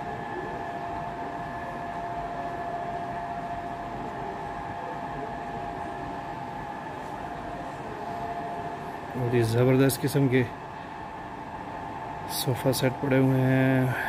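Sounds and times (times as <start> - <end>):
ventilation hum and hiss: 0.0 - 14.0.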